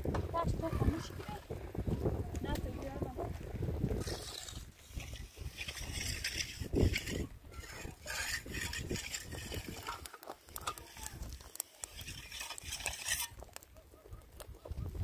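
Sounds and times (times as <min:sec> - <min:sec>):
wind rumble on microphone: 0:00.0 - 0:15.0
wood fire crackling: 0:00.0 - 0:15.0.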